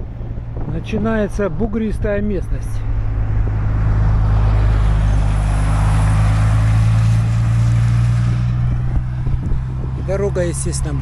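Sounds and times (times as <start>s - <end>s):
low engine hum: 0.0s - 11.0s
passing vehicles on highway: 0.0s - 11.0s.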